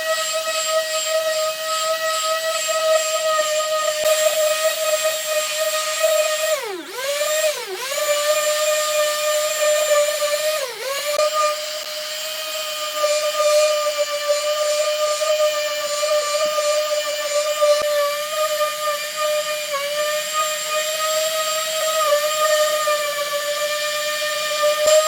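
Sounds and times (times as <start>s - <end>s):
power tool high whine: 0.0s - 25.0s.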